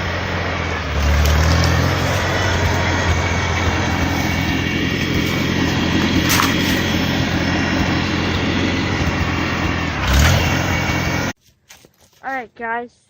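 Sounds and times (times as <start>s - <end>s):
small tractor engine running: 0.0s - 11.4s.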